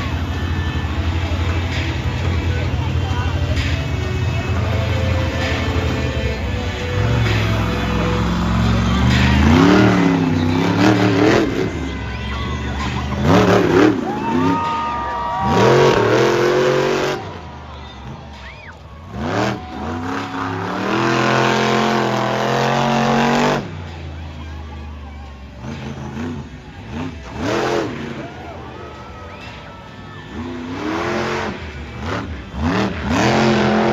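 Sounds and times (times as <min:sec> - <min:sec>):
monster truck engine revving: 0:00.0 - 0:33.9.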